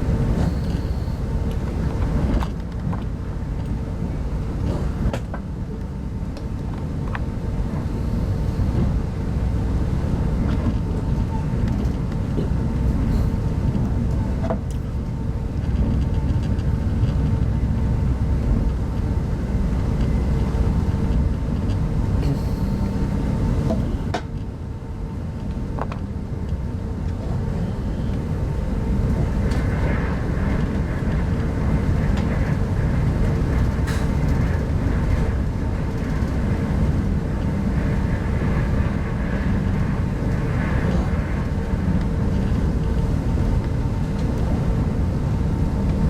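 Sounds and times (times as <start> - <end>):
constant hum: 0.0 - 46.0
wheels rumbling on track: 0.0 - 46.0.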